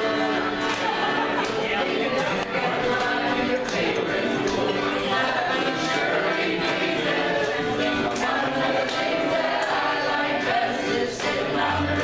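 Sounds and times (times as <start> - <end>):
several voices singing: 0.0 - 12.0.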